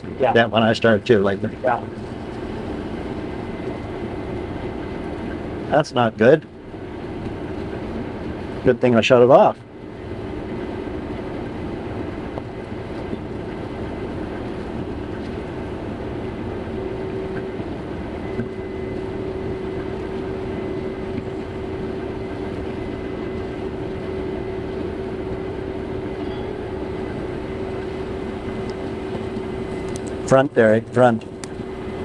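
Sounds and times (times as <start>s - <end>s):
combine harvester rumble: 0.0s - 32.0s
steady hum: 0.0s - 32.0s.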